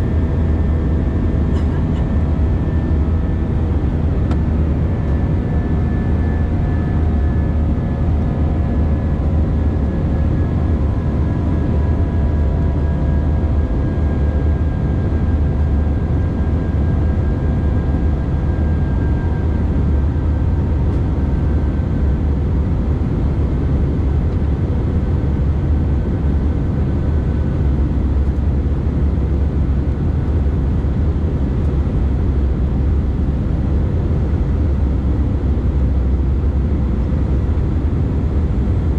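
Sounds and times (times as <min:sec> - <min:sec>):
aircraft engines rumbling: 0:00.0 - 0:38.9
faint whining engine tones: 0:00.0 - 0:38.9.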